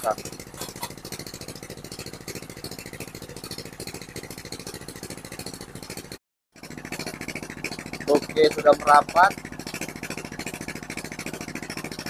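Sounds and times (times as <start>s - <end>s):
small engine thumping: 0.0s - 12.0s.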